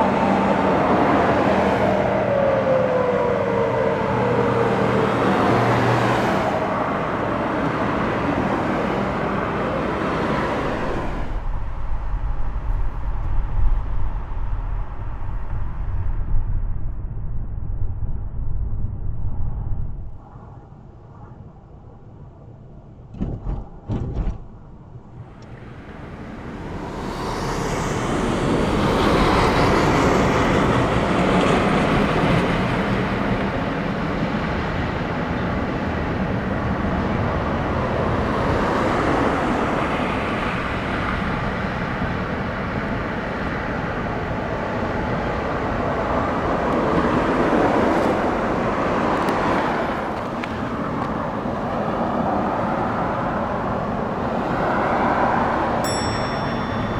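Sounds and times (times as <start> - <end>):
cars on the road: 0.0 - 16.1, 23.1 - 56.9.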